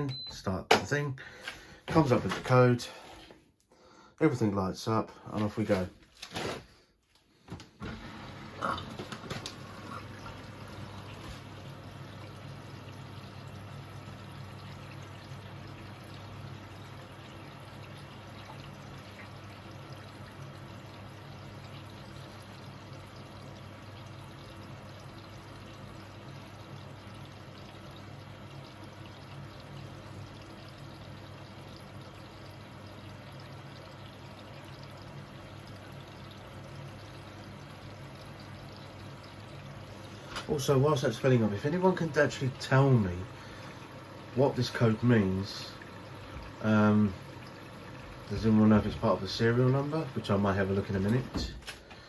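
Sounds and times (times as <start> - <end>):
water rushing into washing machine: 0.0 - 3.3, 5.2 - 52.0.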